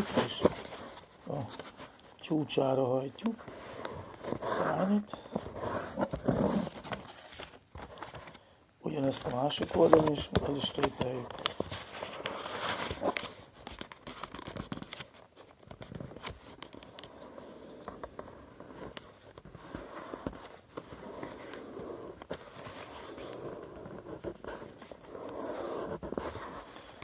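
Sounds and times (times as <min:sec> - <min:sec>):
paper rustling and crinkling: 0:00.0 - 0:27.0.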